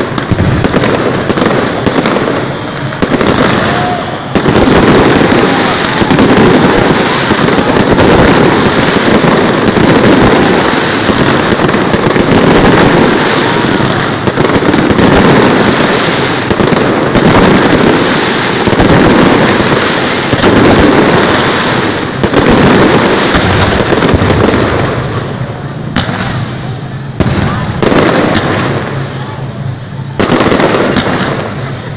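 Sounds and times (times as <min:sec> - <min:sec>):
fireworks bursting: 0:00.0 - 0:31.9.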